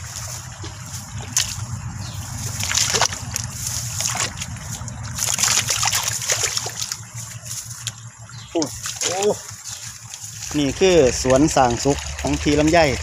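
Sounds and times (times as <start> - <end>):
frogs splashing in water: 0.0 - 13.0
steady low rumble: 0.0 - 13.0.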